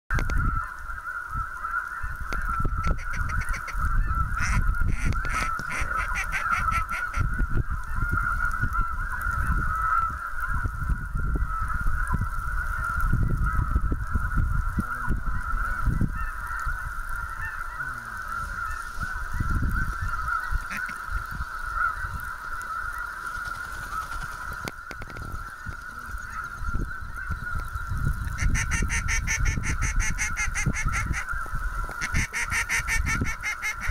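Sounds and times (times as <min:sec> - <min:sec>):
geese honking: 0:00.2 - 0:10.7, 0:11.4 - 0:33.9.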